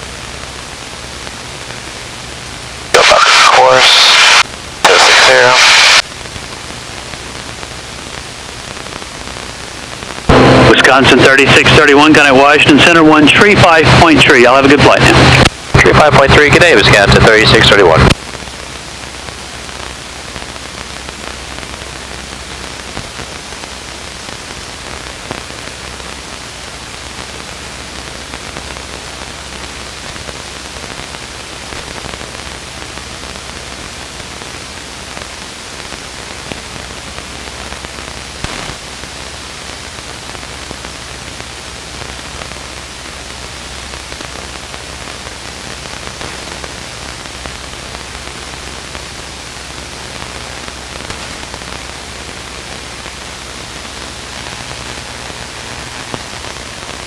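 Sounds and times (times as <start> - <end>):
cockpit audio hiss: 0.2 - 57.0.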